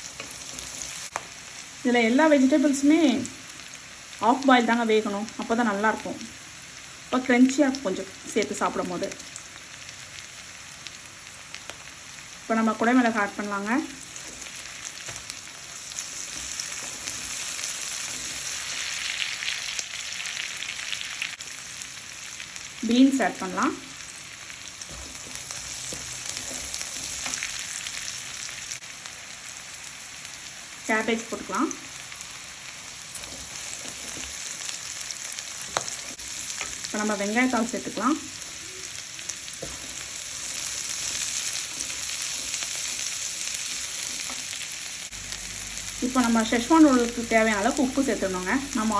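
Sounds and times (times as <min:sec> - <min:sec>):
vegetables sizzling in hot oil: 0:00.0 - 0:48.9.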